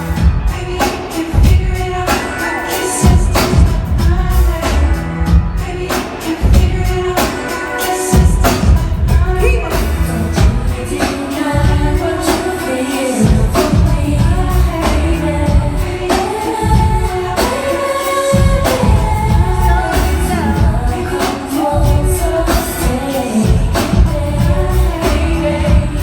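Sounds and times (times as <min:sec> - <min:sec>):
band with heavy bass and drums: 0:00.0 - 0:26.0
person singing: 0:00.0 - 0:26.0.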